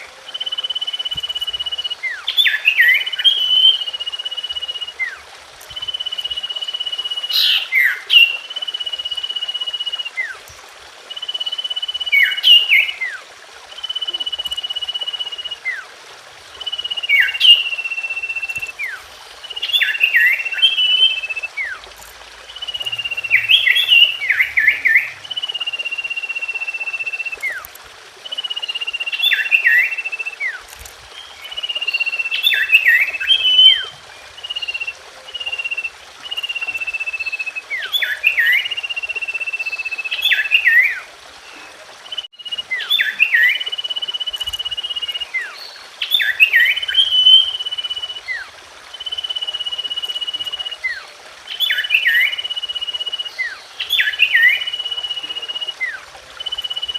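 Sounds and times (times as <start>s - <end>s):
bird whistle and chirping: 0.0s - 10.4s, 11.1s - 13.2s, 13.8s - 15.9s, 16.5s - 56.9s.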